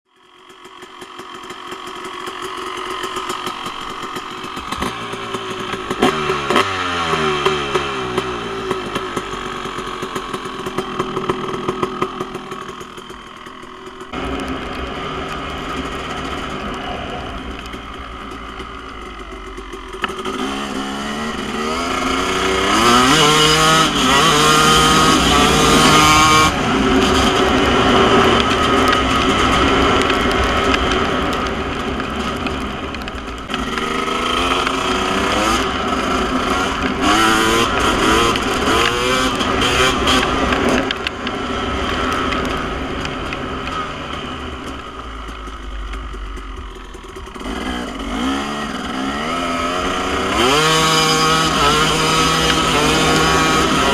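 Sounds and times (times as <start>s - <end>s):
dirt bike engine revving: 0.1s - 53.9s.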